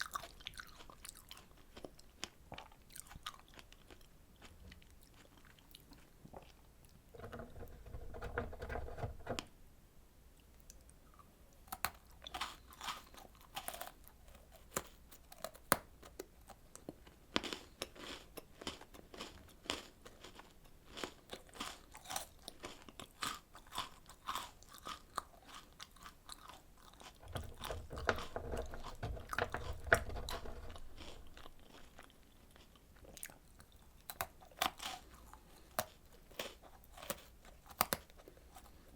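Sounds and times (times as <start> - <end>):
close-miked chewing and biting: 0.0 - 7.0, 10.6 - 38.9.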